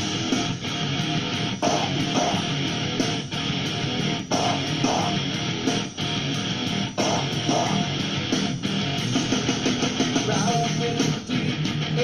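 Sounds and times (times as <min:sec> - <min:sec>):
background music with strummed guitar: 0:00.0 - 0:12.0.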